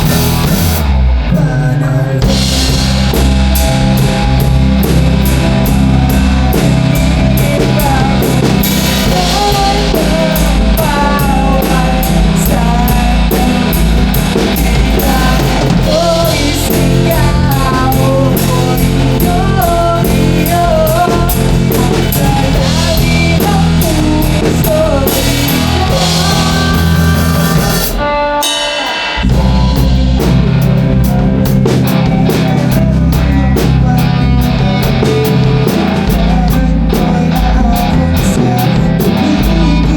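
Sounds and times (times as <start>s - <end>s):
drum kit: 0.0s - 39.9s
electric guitars: 0.0s - 39.9s
wavering melodic lead line: 2.2s - 39.9s.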